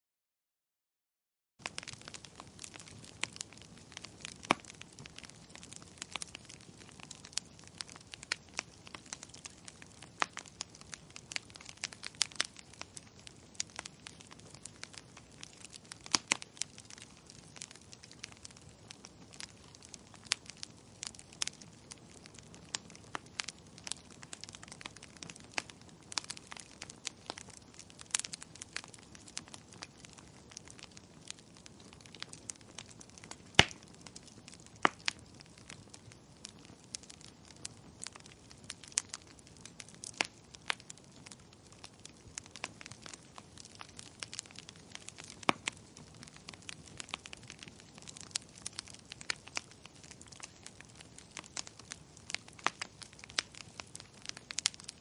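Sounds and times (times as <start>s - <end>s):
wood fire crackling and popping: 1.6s - 55.0s.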